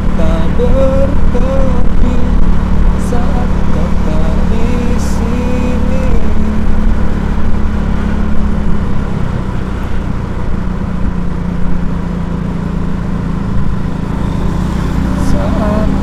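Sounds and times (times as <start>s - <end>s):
engine low hum: 0.0s - 16.0s
road and traffic noise: 0.0s - 16.0s.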